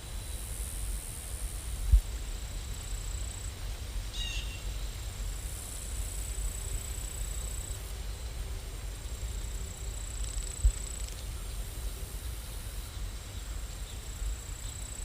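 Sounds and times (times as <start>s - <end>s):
rain hiss and rumble: 0.0s - 15.0s.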